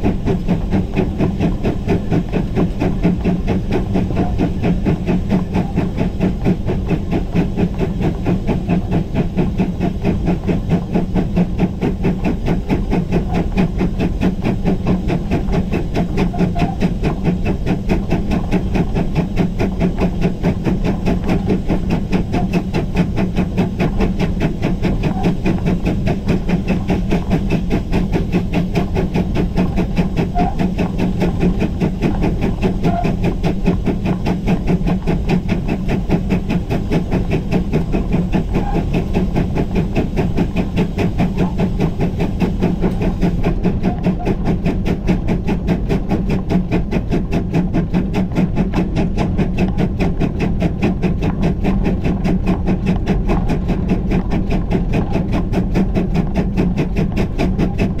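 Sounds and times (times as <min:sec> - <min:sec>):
steam hissing: 0:00.0 - 0:58.0
steam locomotive exhaust beats: 0:00.0 - 0:58.0.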